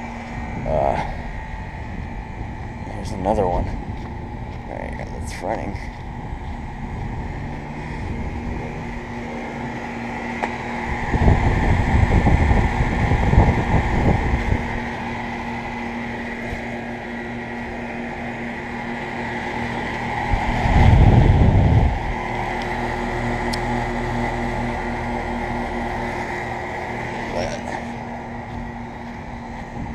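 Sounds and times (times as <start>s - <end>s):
heat pump humming: 0.0s - 29.9s
low rumbles: 0.0s - 29.9s.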